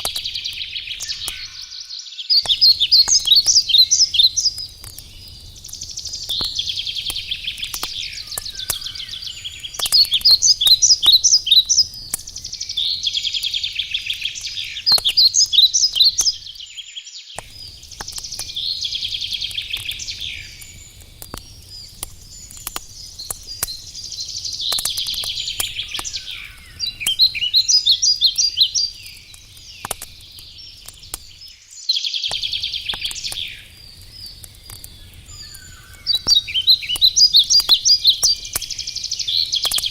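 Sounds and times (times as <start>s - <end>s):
campfire crackling and popping: 0.0s - 1.8s, 2.4s - 16.8s, 17.4s - 39.9s
songbirds warbling: 0.0s - 39.9s.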